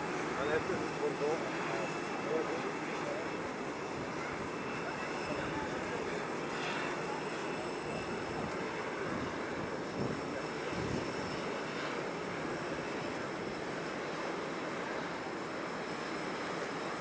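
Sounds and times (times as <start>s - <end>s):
jet engines rushing with whine: 0.0s - 17.0s.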